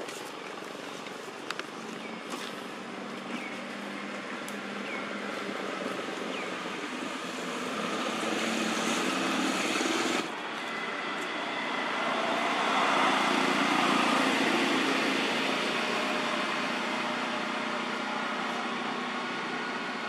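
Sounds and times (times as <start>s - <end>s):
engine-like drone with hiss: 0.1s - 20.0s.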